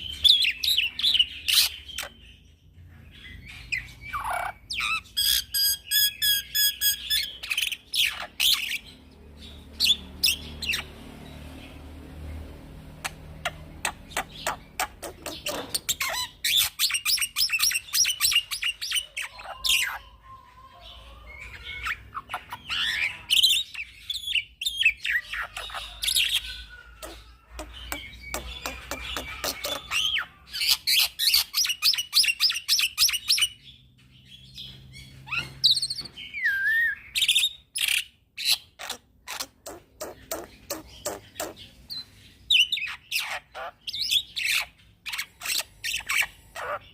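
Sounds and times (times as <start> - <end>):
starling singing: 0.0 - 46.9.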